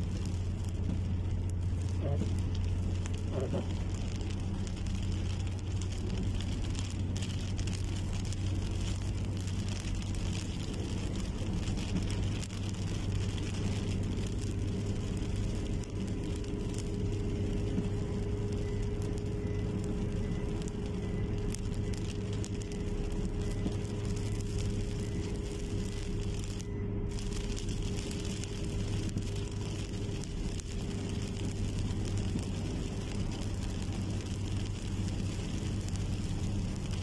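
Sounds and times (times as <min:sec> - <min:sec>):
car engine low rumble: 0:00.0 - 0:37.0
faint steady whine: 0:00.0 - 0:37.0
light rain pattering: 0:00.0 - 0:37.0.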